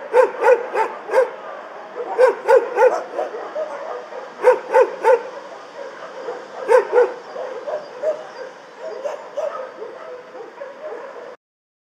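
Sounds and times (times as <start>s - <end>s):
fainter dogs barking and yipping: 0.0s - 11.4s
loud dog barks: 0.0s - 11.4s.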